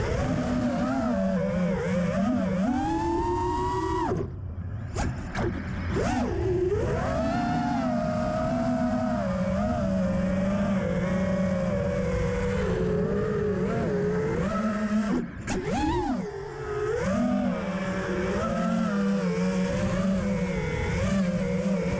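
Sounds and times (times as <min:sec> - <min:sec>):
drone motors buzzing whine: 0:00.0 - 0:21.9.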